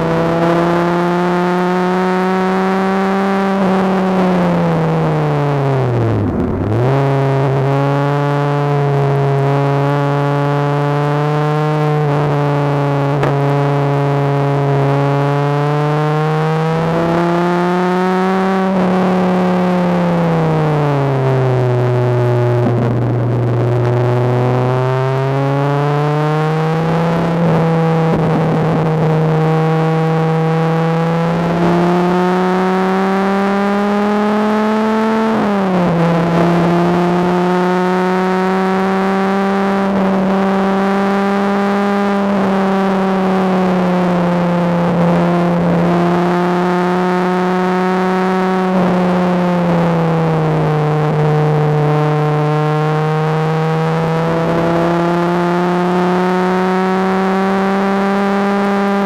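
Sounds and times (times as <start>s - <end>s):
sports car engine from inside cabin: 0.0s - 59.0s.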